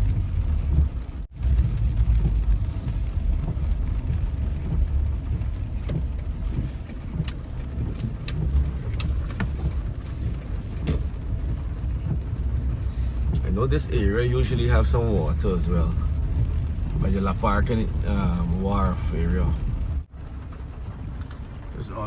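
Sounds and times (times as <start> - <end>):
road and engine rumble: 0.0 - 22.0.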